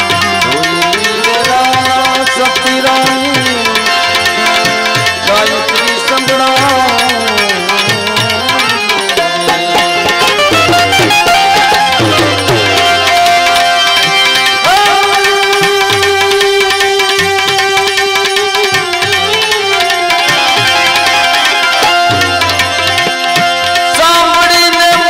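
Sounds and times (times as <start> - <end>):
devotional melody: 0.0 - 25.0
tabla rhythm: 0.0 - 25.0.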